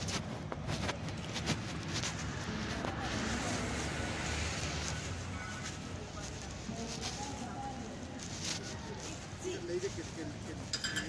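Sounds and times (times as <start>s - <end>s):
faint voices of passers-by: 0.0s - 11.0s
traffic rumble: 0.0s - 11.0s.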